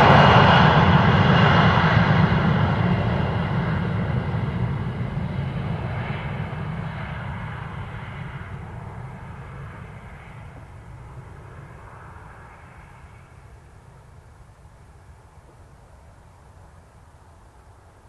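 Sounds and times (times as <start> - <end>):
jet engines at takeoff: 0.0 - 18.0.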